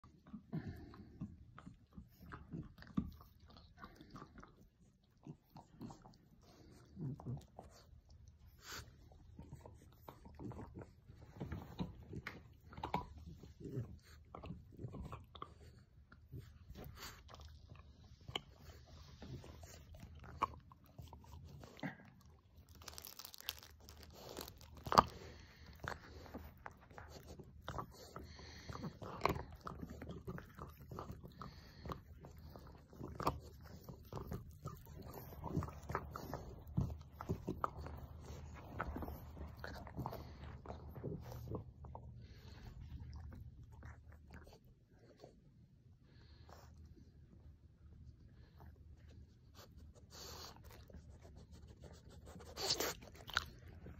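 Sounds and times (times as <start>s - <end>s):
dogs gnawing on hard chews: 0.0s - 45.4s, 50.0s - 53.9s.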